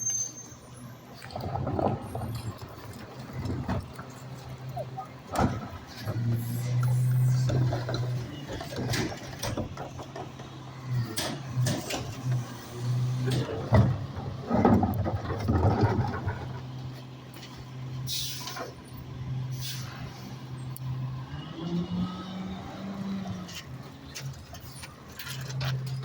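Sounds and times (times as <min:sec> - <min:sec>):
garbage truck humming: 0:00.0 - 0:26.0.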